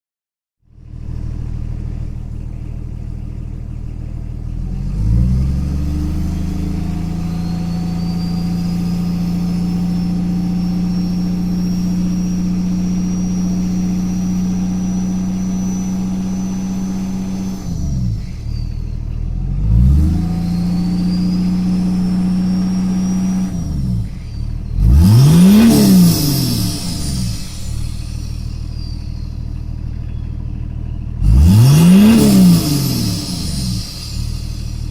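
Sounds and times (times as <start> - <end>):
diesel engine revving: 0.7 - 34.9
high engine whine: 0.7 - 34.9.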